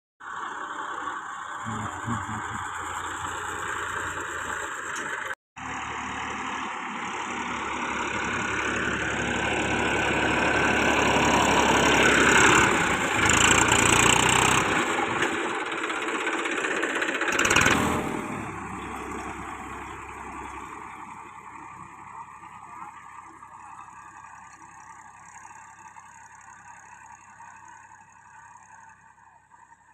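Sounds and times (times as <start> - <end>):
tractor engine running: 0.2 - 29.9.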